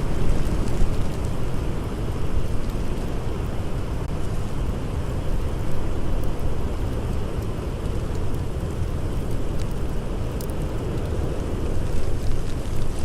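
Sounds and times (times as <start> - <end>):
blizzard wind roaring: 0.0 - 13.0
campfire crackling: 0.0 - 13.0.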